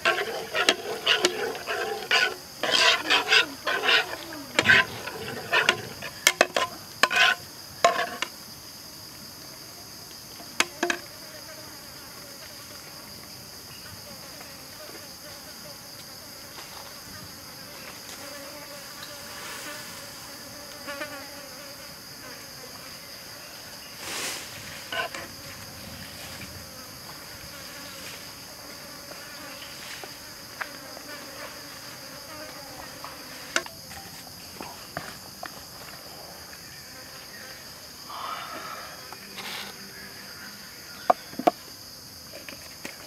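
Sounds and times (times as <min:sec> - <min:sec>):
insects chorus: 0:00.0 - 0:43.0.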